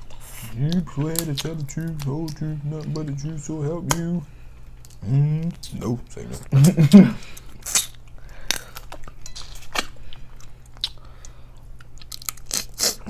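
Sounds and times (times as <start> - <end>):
chewing and mouth smacks: 0.0 - 5.7, 7.2 - 13.0
low hum: 0.0 - 12.3.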